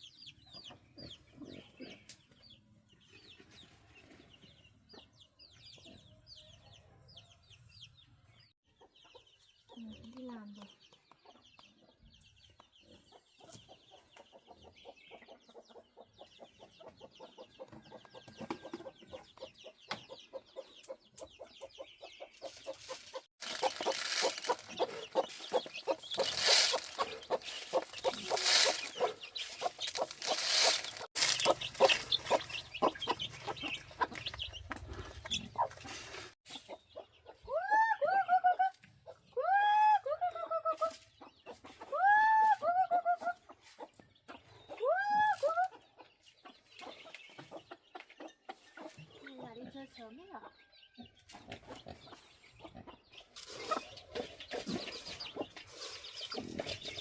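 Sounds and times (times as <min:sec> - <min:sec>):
chickens clucking: 0:00.0 - 0:07.4, 0:08.2 - 0:57.0.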